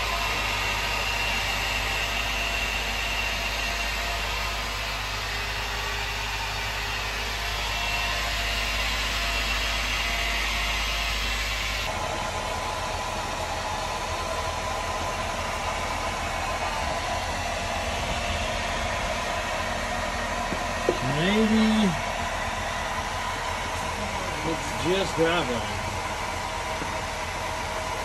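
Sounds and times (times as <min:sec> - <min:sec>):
driveline grinding drone: 0:00.0 - 0:28.0.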